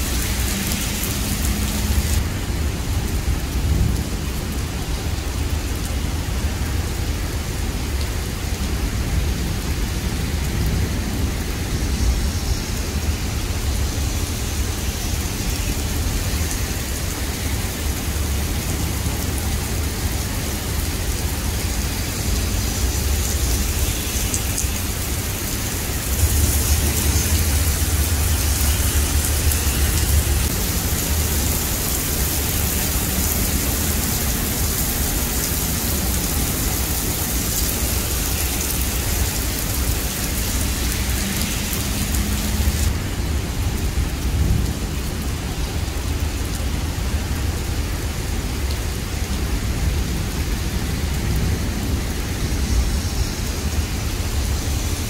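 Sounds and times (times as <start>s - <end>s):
heavy rain on asphalt: 0.0s - 55.0s.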